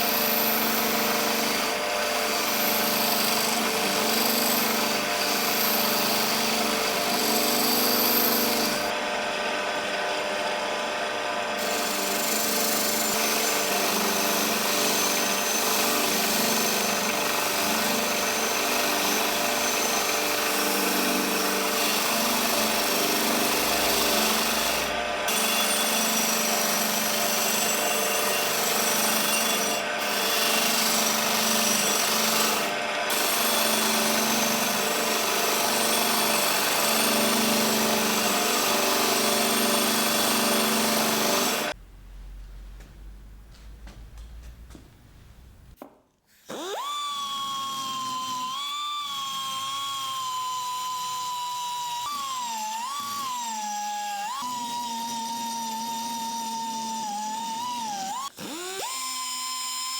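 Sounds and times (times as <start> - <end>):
power tool abrading metal: 0.0 - 41.8, 46.4 - 59.9.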